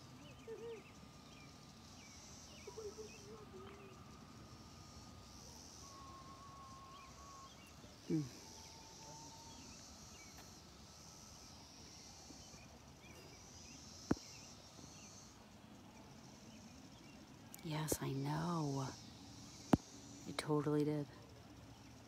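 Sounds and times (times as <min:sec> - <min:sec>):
faint bird chirps: 0:00.0 - 0:22.0
insects chirring: 0:00.0 - 0:22.0.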